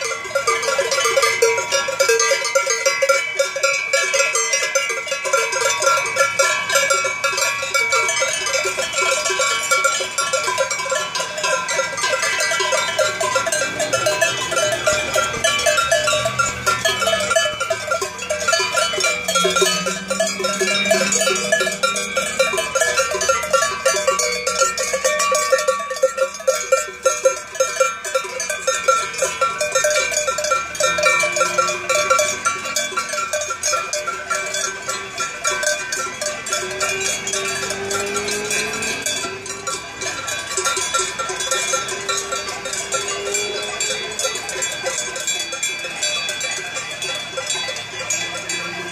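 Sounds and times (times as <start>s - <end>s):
cowbells clanging: 0.0s - 48.9s.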